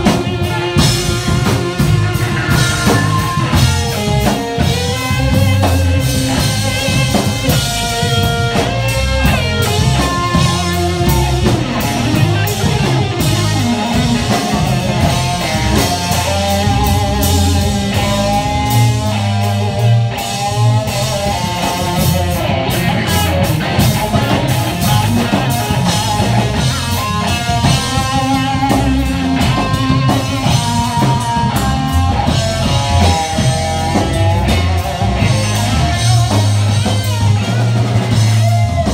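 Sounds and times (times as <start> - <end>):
drum kit: 0.0 - 38.9
electric guitars playing: 0.0 - 38.9.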